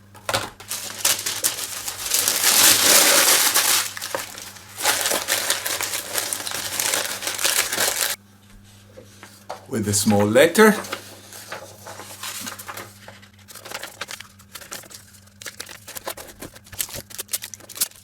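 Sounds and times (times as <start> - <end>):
paper packaging crinkling: 0.1 - 8.2, 10.1 - 18.0.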